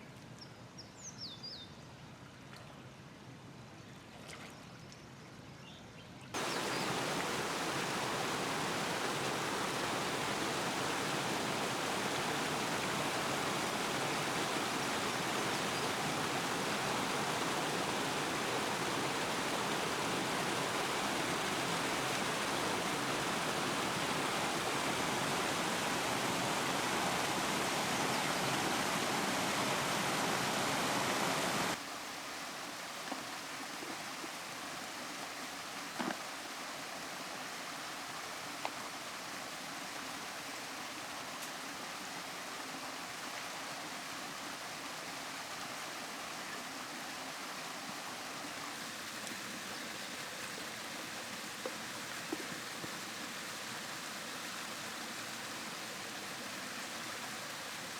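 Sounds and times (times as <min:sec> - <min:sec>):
river water rushing: 0:06.4 - 0:57.9.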